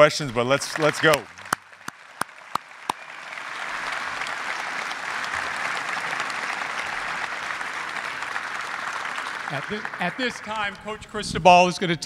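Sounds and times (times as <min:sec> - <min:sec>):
audience applause: 0:00.0 - 0:11.0
sharp hand clap: 0:00.7 - 0:10.8.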